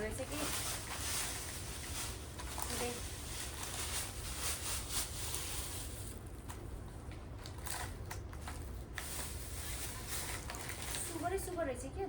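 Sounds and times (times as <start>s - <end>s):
biscuit packet rustling: 0.0s - 11.5s.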